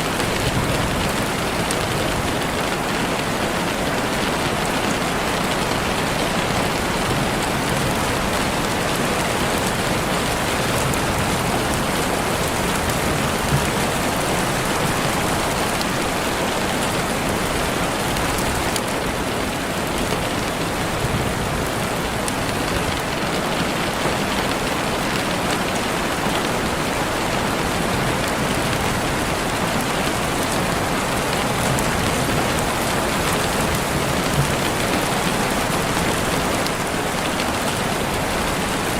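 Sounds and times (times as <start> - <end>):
heavy rain on leaves: 0.0 - 38.9.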